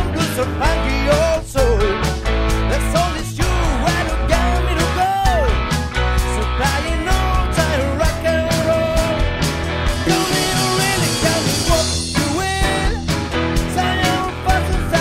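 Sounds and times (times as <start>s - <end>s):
rock song by band: 0.0s - 15.0s
steady drums: 0.0s - 15.0s.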